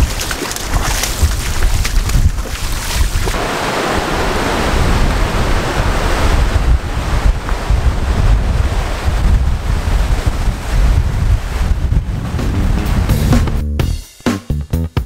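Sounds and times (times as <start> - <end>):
ocean surf washing over rocks: 0.0 - 12.1
wind buffeting microphone: 0.0 - 13.3.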